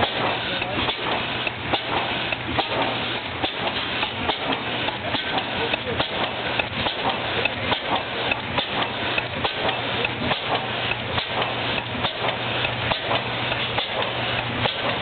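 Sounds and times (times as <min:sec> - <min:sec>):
stationary gas engine running: 0:00.0 - 0:15.0
valve gear clattering: 0:00.0 - 0:15.0.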